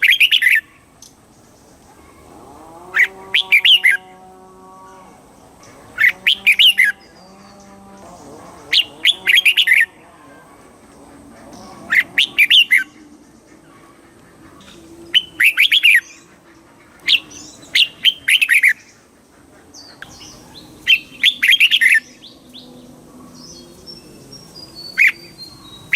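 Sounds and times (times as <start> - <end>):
bird singing warbled phrases: 0.0 - 25.9.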